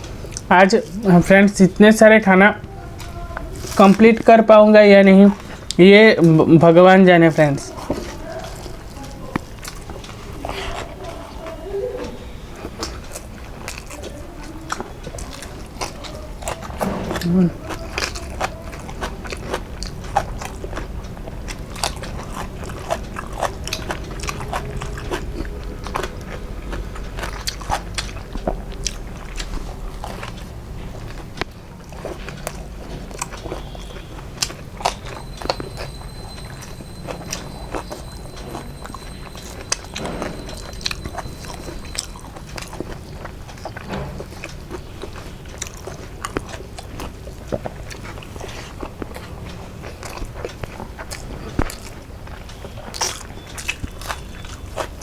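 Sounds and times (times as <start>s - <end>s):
person chewing food: 5.2s - 6.4s, 7.4s - 55.0s.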